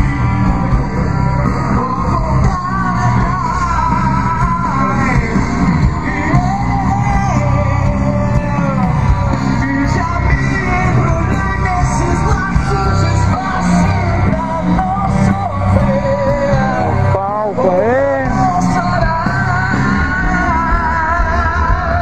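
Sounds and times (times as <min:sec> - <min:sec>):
person singing: 0:00.0 - 0:22.0
rock music with bass and beat: 0:00.0 - 0:22.0.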